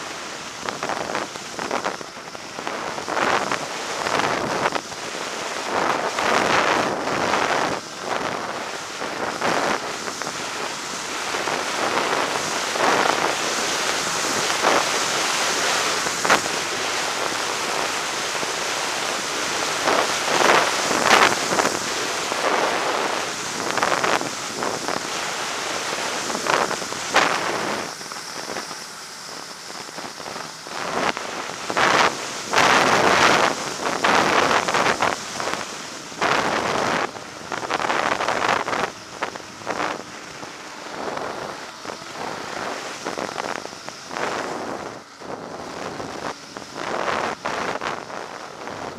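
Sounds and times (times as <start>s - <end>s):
snowmobile engine running: 0.0s - 48.9s
wind noise on microphone: 0.0s - 48.9s.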